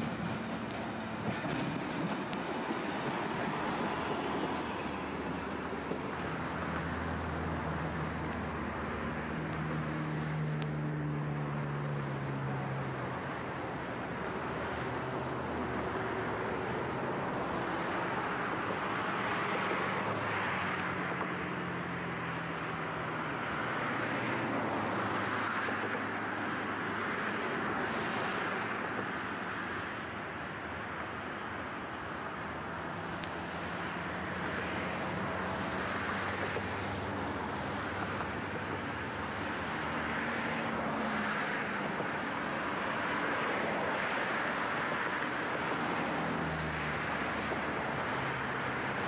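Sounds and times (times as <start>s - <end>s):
diesel engine drone: 0.0s - 49.0s
railcar rushing noise: 0.0s - 49.0s.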